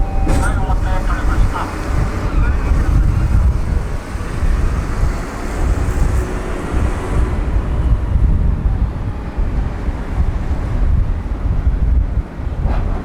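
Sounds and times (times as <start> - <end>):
ship rumble: 0.0 - 13.0
wind buffeting microphone: 0.0 - 13.0.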